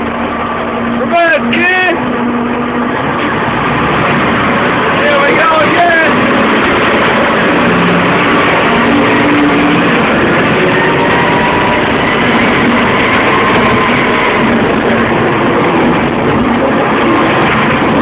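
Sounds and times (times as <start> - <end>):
bulldozer running: 0.0 - 18.0.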